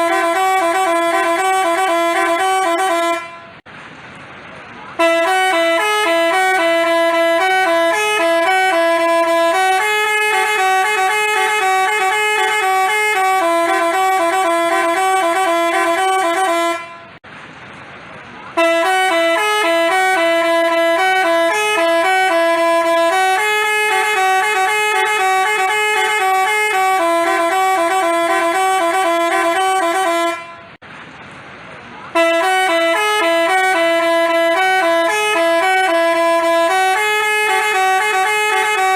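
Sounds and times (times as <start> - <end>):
multi-tone bus horn melody: 0.0 - 3.7, 4.9 - 17.2, 18.5 - 30.8, 32.1 - 38.9.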